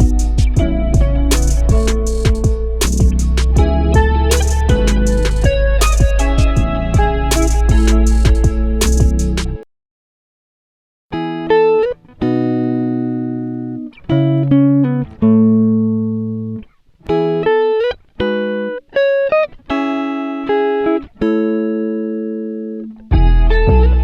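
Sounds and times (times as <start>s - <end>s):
guitar chords ringing: 0.0s - 9.6s, 11.1s - 24.0s.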